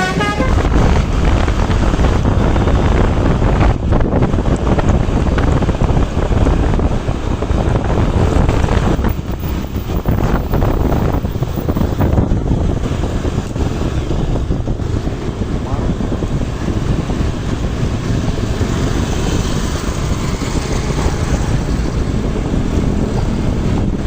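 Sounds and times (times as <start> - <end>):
vehicle rumbling on road: 0.0 - 24.0
wind buffeting microphone: 0.0 - 24.0.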